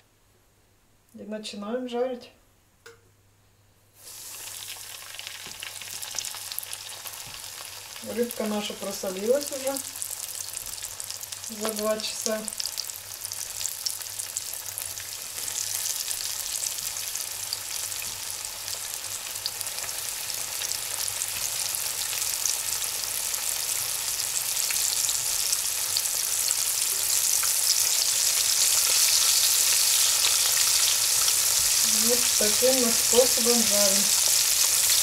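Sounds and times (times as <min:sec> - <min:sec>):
fish sizzling in hot oil: 0:04.0 - 0:35.0.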